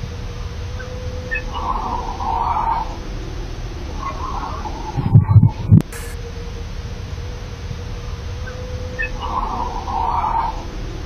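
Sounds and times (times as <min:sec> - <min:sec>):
faint steady hum: 0:00.0 - 0:11.0
steady hiss: 0:00.0 - 0:11.0.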